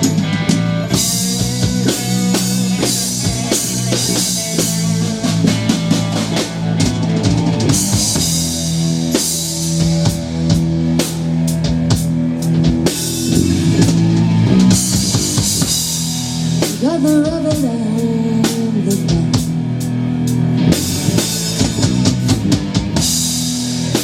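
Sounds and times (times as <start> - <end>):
guitar: 0.0 - 24.0
rock band playing: 0.0 - 24.0
sustained bass notes: 0.0 - 24.0.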